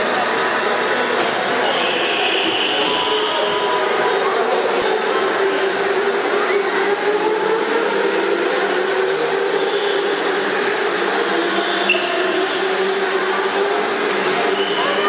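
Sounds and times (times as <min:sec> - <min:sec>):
go-kart engines humming: 0:00.0 - 0:15.0.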